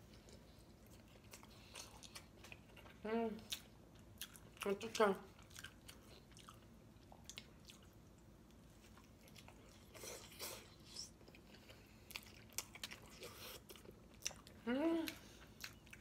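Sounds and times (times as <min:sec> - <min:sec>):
soft chewing with mouth smacks: 0:00.0 - 0:16.0.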